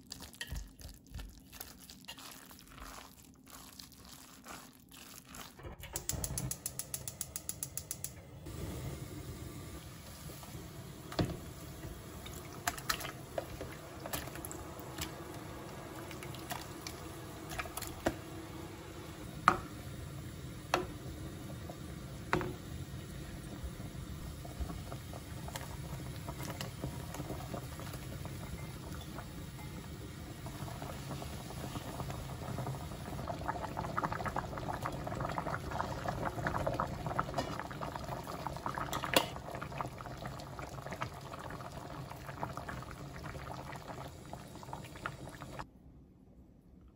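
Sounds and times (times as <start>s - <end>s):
water boiling in a pot: 0.0s - 45.7s.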